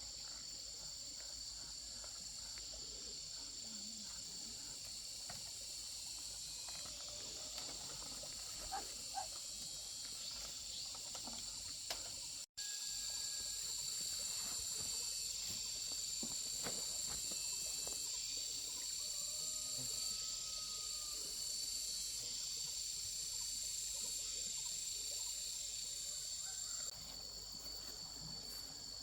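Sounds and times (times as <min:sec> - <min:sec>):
insects buzzing: 0:00.0 - 0:29.0.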